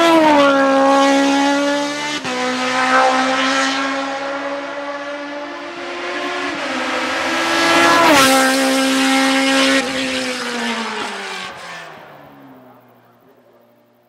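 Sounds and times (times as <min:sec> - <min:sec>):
engine at high revs passing: 0:00.0 - 0:13.8.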